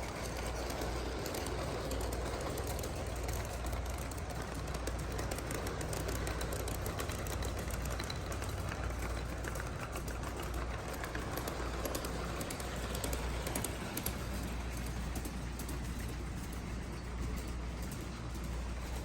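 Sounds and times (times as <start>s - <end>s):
model train humming: 0.0s - 19.0s
wheels clicking on track: 0.0s - 19.0s.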